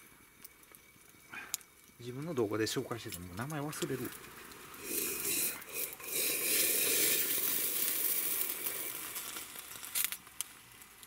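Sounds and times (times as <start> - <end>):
water pouring into cup: 0.0 - 10.1
boiled water hissing in pot: 0.0 - 11.0.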